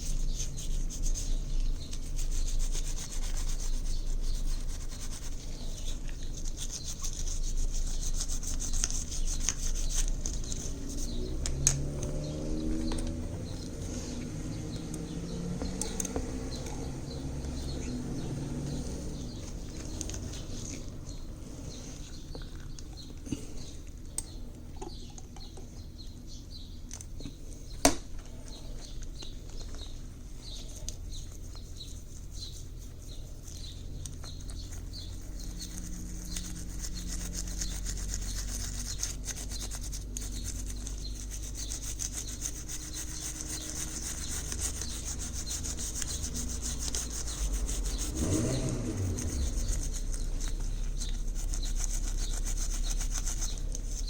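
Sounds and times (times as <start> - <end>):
hand rubbing strokes: 0.0 - 24.0, 28.4 - 54.0.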